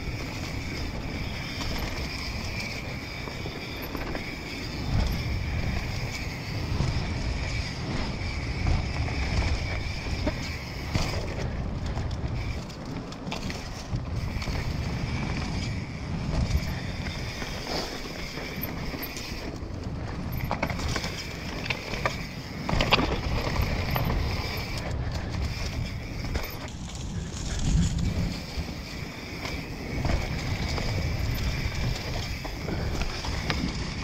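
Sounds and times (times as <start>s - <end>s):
bike knocking and rattling: 0.0s - 34.0s
bike tyres rumbling over dirt: 0.0s - 34.0s
wind buffeting microphone: 0.0s - 34.0s.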